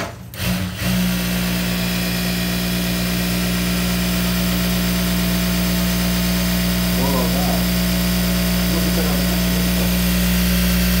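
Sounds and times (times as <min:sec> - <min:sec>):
sewing machine motor whirring: 0:00.3 - 0:11.0.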